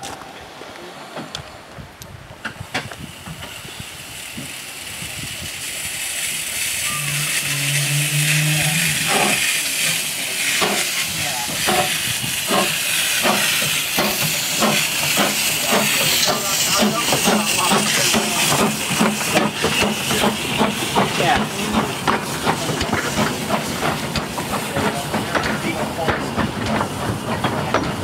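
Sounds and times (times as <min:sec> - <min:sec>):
steam hissing from cylinders: 0:02.4 - 0:28.0
steam locomotive exhaust chuffs: 0:02.4 - 0:28.0.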